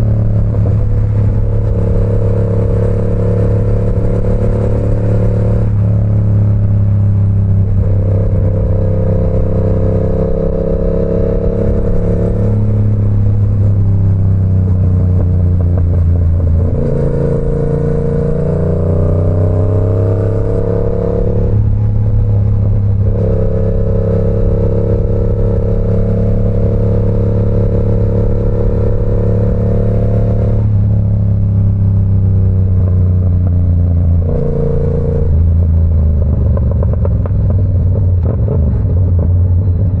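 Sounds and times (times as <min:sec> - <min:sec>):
motorcycle engine running: 0:00.0 - 0:38.2.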